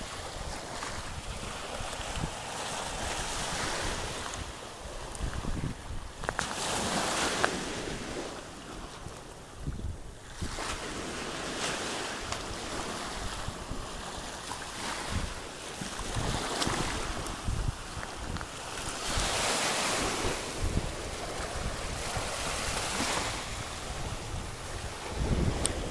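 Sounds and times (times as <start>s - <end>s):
small waves washing in: 0.0s - 25.9s
wind buffeting microphone: 0.0s - 25.9s.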